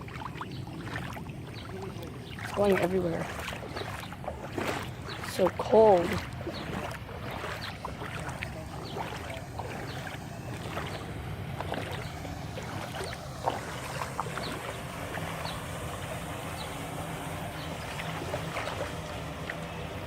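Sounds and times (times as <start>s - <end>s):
low steady hum: 0.0s - 20.0s
small splashes: 0.0s - 20.0s
water sloshing and trickling: 0.0s - 20.0s.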